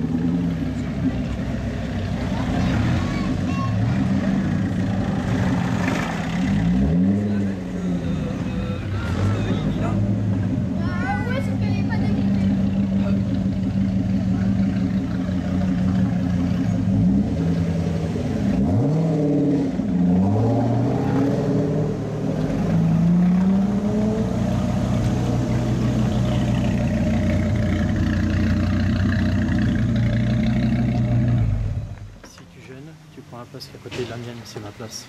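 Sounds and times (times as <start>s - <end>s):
car engine revving and driving off: 0.0s - 35.0s.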